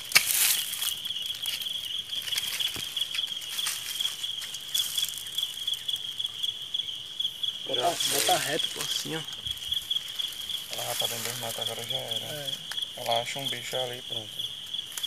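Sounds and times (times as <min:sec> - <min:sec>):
dry leaves and grass rustling: 0:00.0 - 0:06.7, 0:07.6 - 0:15.0
insect trilling: 0:00.0 - 0:15.0.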